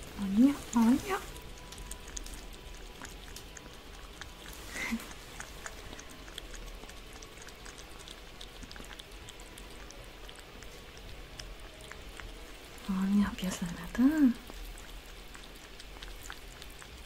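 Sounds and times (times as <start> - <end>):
kitten lapping from a mug: 0.0 - 17.0.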